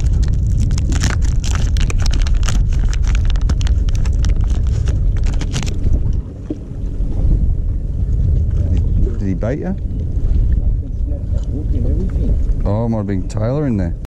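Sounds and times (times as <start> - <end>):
crackles and clicks: 0.0 - 14.0
wind buffeting microphone: 0.0 - 14.0.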